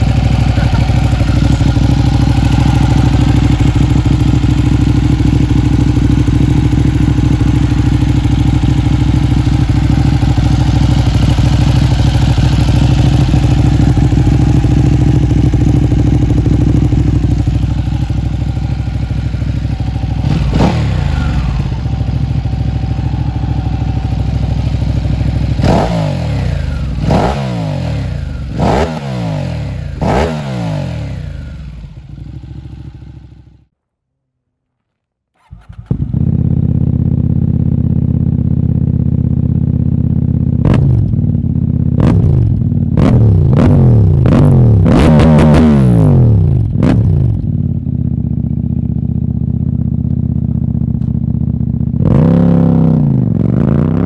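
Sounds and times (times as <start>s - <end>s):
motorcycle engine revving: 0.0s - 33.7s, 35.4s - 54.0s.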